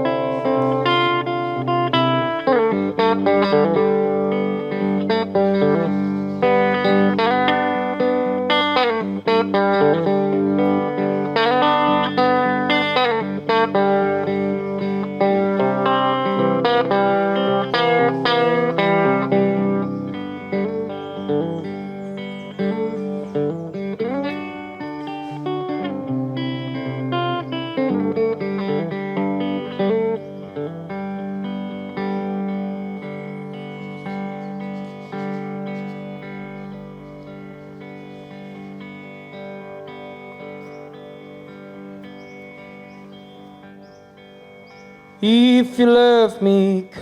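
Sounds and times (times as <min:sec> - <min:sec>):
plucked guitar notes: 0:00.0 - 0:47.0.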